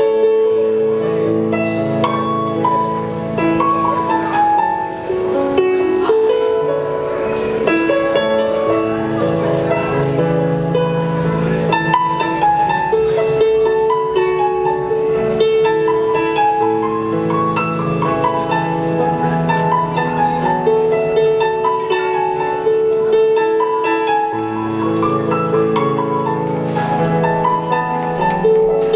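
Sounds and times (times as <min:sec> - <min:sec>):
solo piano music: 0:00.0 - 0:28.9.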